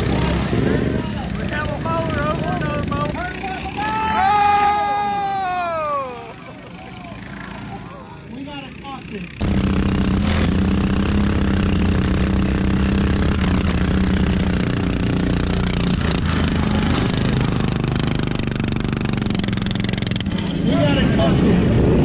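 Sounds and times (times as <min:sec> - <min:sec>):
lawn mower engine running hard: 0:00.0 - 0:05.0, 0:05.8 - 0:20.6.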